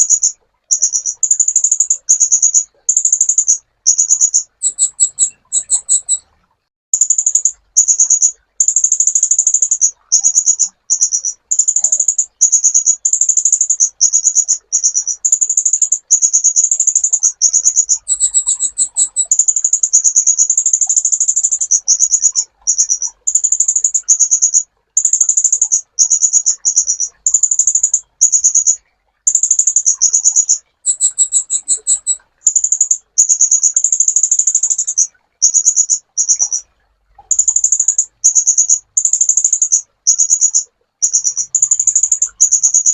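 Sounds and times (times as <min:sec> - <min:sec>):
sunbird high trilled song: 0:00.0 - 0:06.3, 0:07.0 - 0:42.9.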